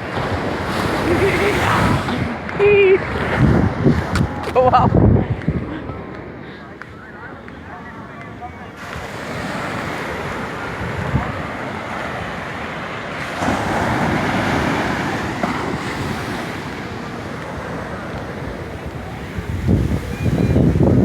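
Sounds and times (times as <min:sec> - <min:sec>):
ocean surf washing onto beach: 0:00.0 - 0:21.0
wind buffeting microphone: 0:00.0 - 0:21.0.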